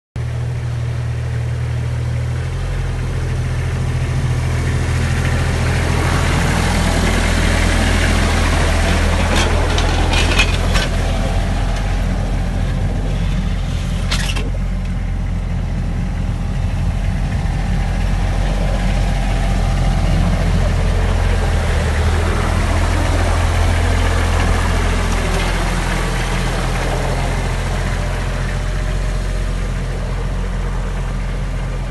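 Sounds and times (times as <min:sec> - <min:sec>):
tractor diesel engine running: 0:00.2 - 0:31.9.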